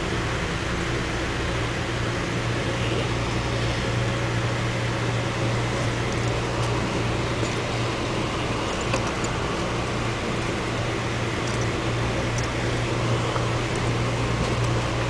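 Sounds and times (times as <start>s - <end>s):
train car rumble: 0.0s - 15.0s.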